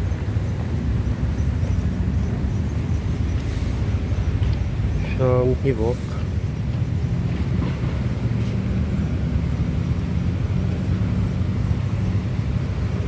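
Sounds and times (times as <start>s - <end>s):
faint engine hum: 0.0s - 13.0s
road traffic rumble: 0.0s - 13.0s.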